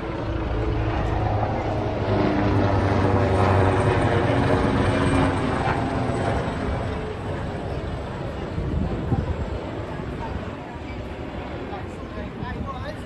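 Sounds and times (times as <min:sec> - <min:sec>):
passing motor engine drone: 0:00.0 - 0:12.4.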